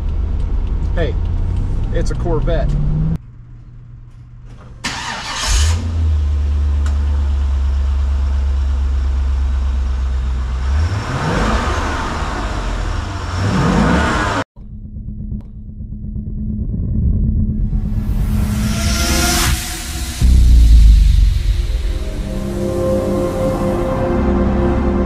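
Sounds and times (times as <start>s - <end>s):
car engine revving: 0.0s - 3.2s, 4.8s - 25.0s.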